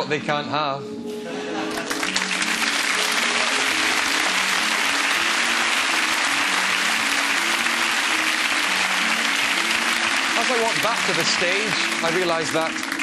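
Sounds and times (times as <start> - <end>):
background music: 0.0 - 13.0
audience applause: 1.7 - 13.0.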